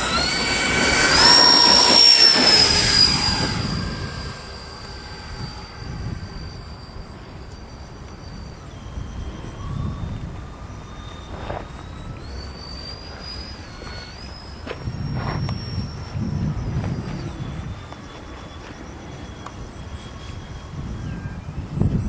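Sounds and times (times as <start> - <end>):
model jet fans whining: 0.0 - 22.0.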